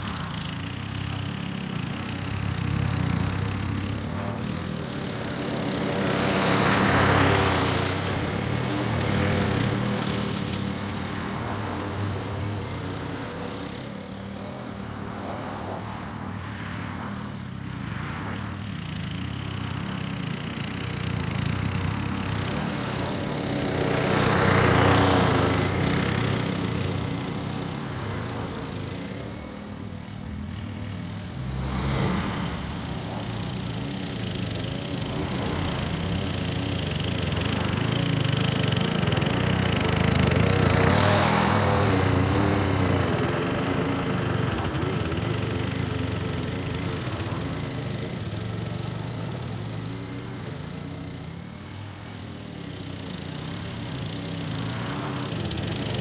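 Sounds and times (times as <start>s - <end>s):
lawn mower engine cutting grass: 0.0s - 56.0s.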